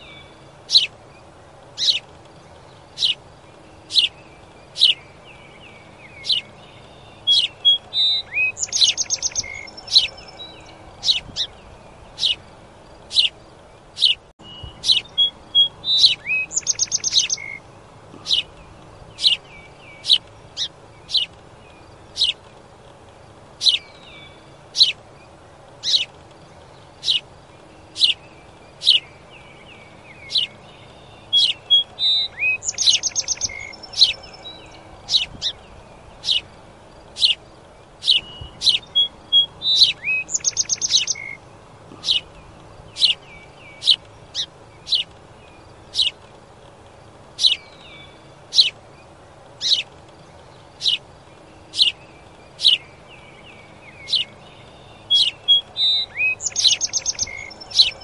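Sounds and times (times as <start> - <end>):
sparrow chirping: 0.0 - 22.5, 23.3 - 46.3, 47.1 - 58.0.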